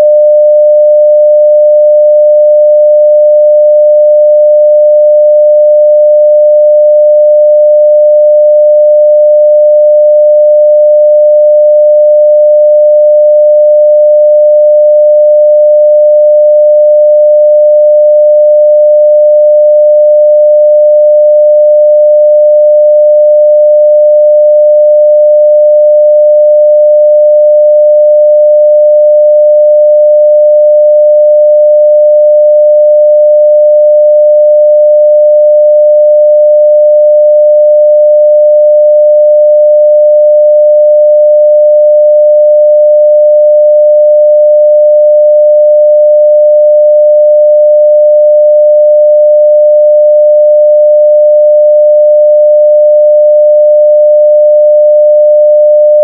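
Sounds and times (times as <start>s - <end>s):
sine wave test tone: 0.0s - 56.0s.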